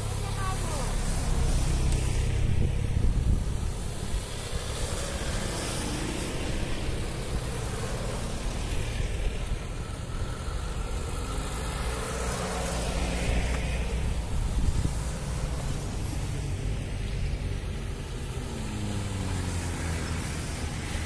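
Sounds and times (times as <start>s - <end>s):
off-road vehicles driving past: 0.0s - 21.0s.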